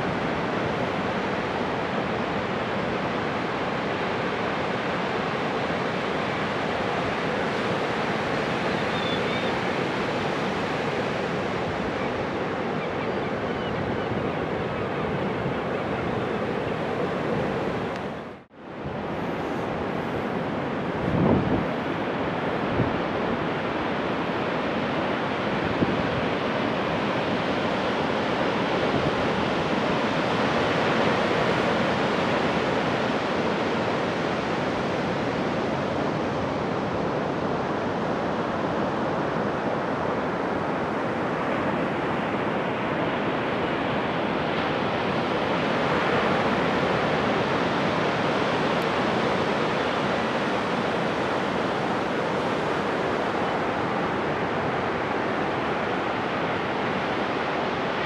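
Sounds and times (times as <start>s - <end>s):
waves washing on beach: 0.0s - 58.0s.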